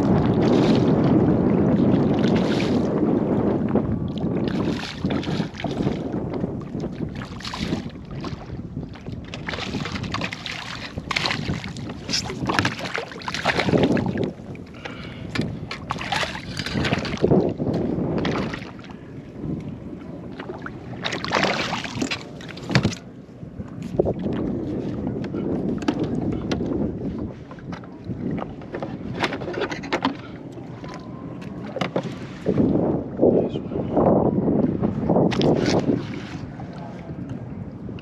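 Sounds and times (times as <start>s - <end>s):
water splashing around kayak: 0.0s - 38.0s
wind rumbling on microphone: 0.0s - 38.0s.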